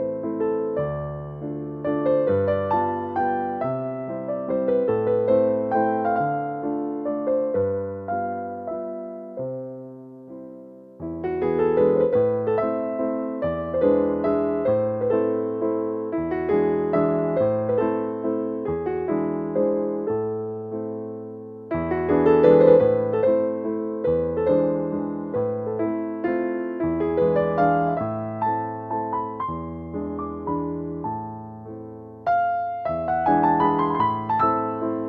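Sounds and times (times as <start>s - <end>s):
gentle piano melody: 0.0s - 35.0s.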